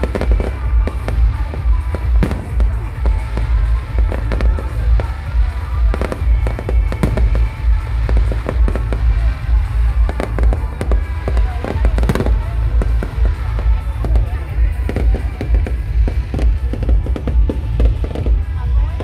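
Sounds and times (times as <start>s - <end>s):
loud music: 0.0s - 19.0s.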